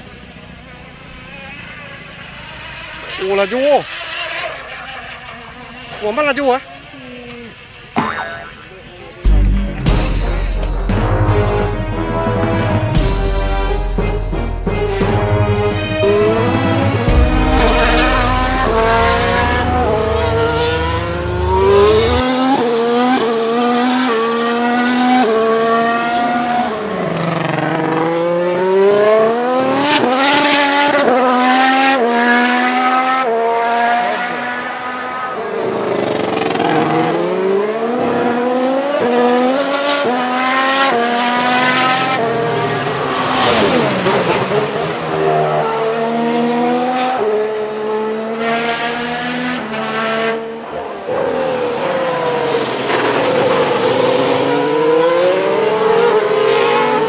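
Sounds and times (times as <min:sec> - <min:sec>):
racing car pass-bys: 0:00.0 - 0:13.0, 0:14.6 - 0:57.0
racing engine revving and shifting: 0:01.1 - 0:08.0, 0:09.2 - 0:57.0.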